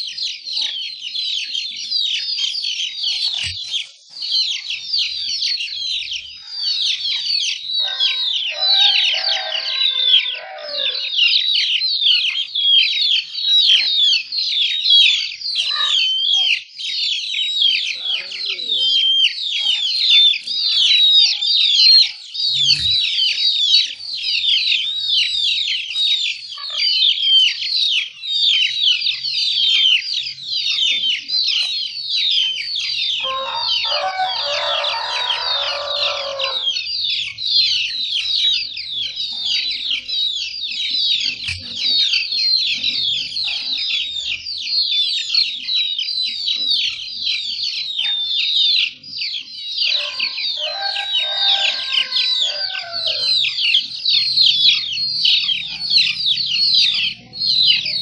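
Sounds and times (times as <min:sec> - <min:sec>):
birds chirping chorus: 0:00.0 - 0:58.0.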